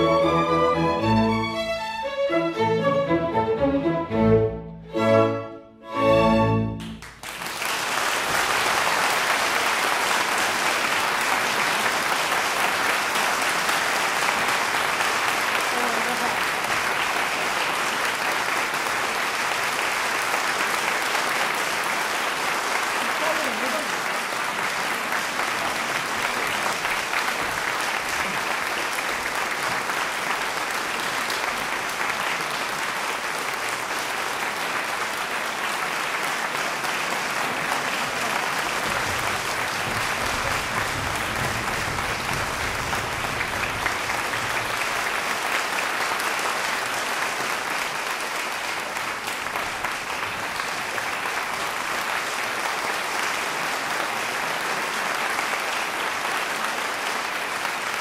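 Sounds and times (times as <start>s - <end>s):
large audience applauding: 6.4s - 58.0s.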